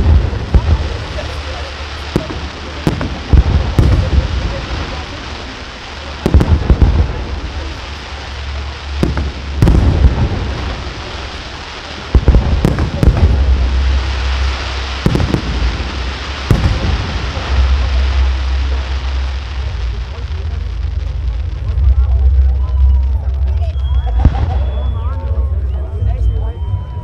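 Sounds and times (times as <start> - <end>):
fireworks bursting with bangs: 0.0 - 26.2
low rumble: 0.0 - 27.0.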